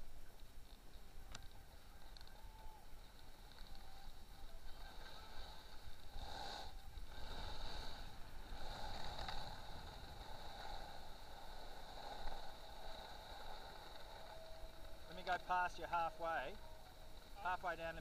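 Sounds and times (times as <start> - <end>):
skis scraping over snow: 0.4 - 18.0.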